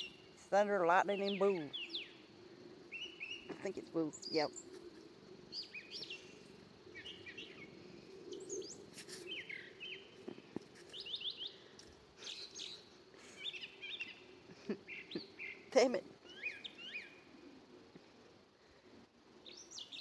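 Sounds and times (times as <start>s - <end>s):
birds chirping: 0.0s - 17.7s, 19.4s - 20.0s
faint low steady hum: 0.0s - 20.0s.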